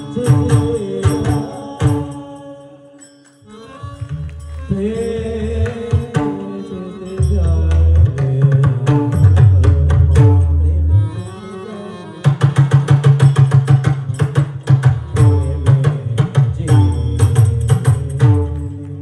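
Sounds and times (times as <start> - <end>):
barrel drum playing: 0.0 - 2.4, 3.6 - 11.3, 12.2 - 19.0
person singing melody: 0.0 - 12.8, 14.7 - 19.0.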